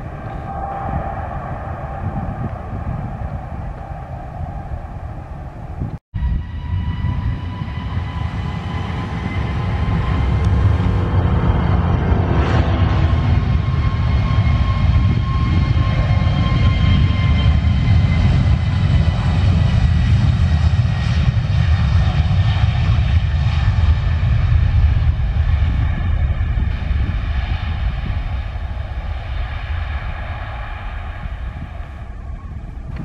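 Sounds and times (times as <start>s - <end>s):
jet engines at takeoff thrust: 0.0s - 33.0s.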